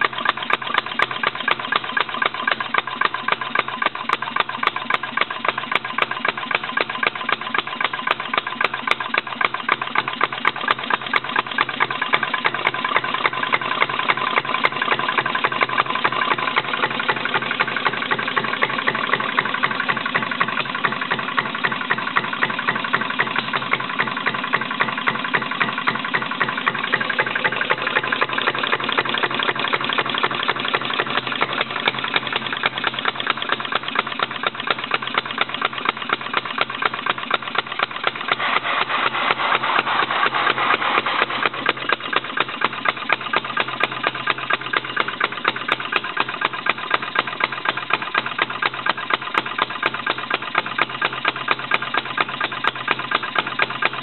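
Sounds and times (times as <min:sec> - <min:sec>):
gasoline engine running steadily: 0:00.0 - 0:54.0.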